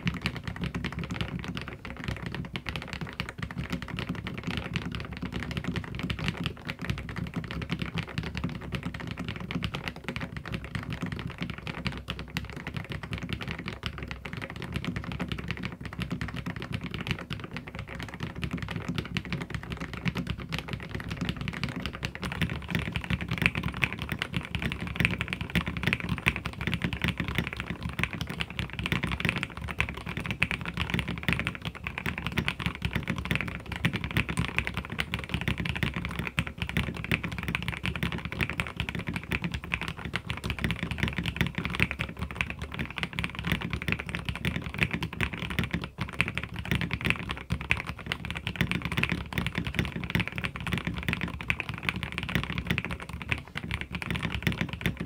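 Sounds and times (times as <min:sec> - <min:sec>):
fast mechanical keyboard typing: 0:00.0 - 0:55.0.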